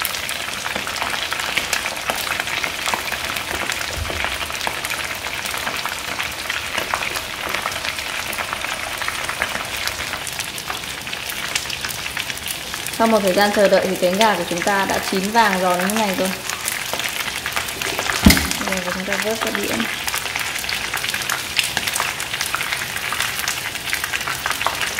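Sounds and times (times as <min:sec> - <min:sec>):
chicken frying in oil: 0:00.0 - 0:24.9.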